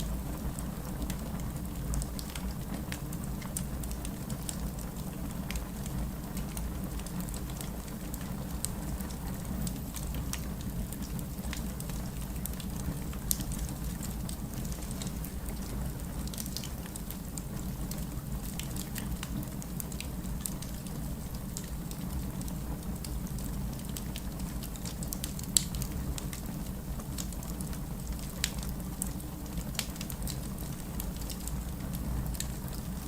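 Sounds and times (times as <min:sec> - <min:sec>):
distant rain rumble: 0:00.0 - 0:33.0
fireplace crackling: 0:00.0 - 0:33.0.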